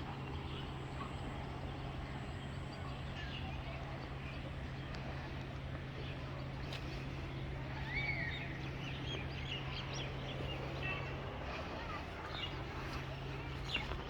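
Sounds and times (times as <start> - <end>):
low outdoor hum: 0.0 - 14.0
birds chirping: 1.7 - 14.0.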